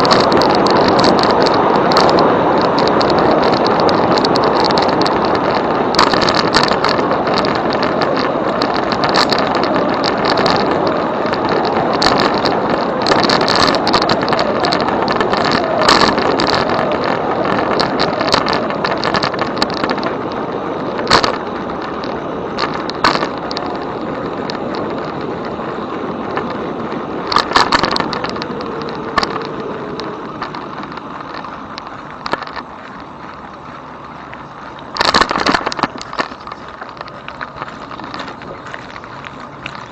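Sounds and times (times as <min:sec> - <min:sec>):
bike rattling over bumps: 0:00.0 - 0:39.9
wind and tyres riding noise: 0:00.0 - 0:39.9.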